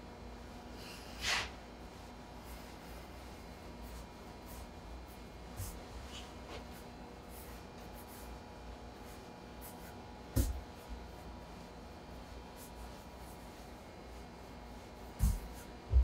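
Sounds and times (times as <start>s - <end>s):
hands rubbing dough on wood: 0.8s - 16.0s.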